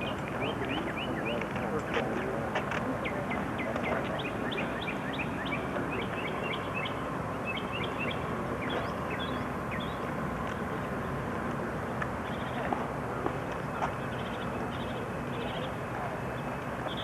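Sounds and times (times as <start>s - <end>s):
small birds chirping: 0.0s - 12.8s, 13.5s - 17.0s
rushing outdoor noise: 0.0s - 17.0s.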